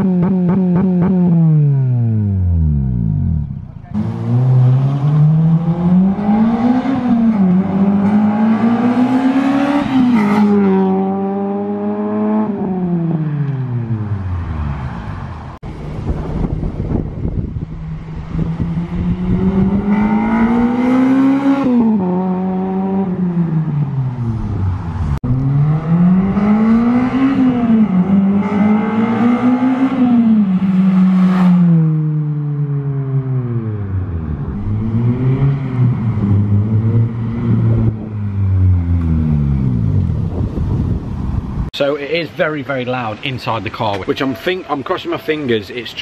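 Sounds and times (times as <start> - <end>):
car engine revving past: 2.1 - 41.6.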